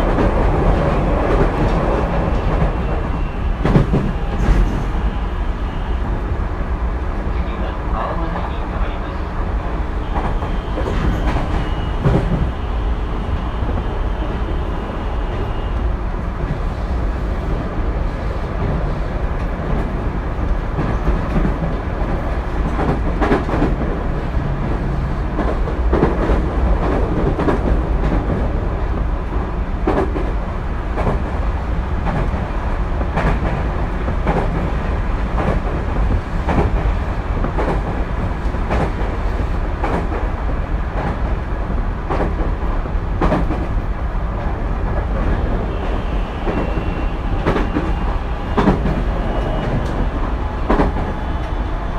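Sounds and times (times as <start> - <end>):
rail joint clacks: 0.0 - 6.2, 7.3 - 51.9
train wheels rumbling on rail: 0.0 - 51.9.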